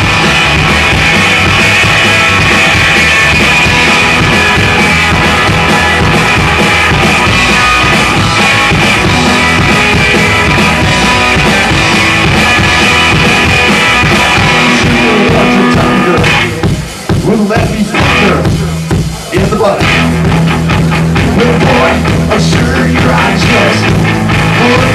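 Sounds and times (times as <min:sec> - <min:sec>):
rockabilly band playing loud: 0:00.0 - 0:24.9.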